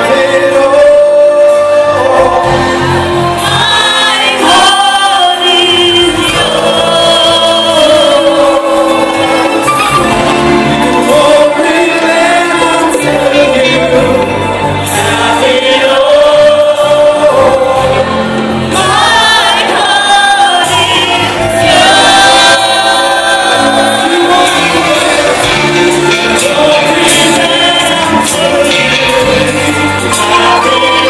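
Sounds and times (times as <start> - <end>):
drums: 0.0 - 31.0
horn section: 0.0 - 31.0
singers on microphones: 0.0 - 31.0.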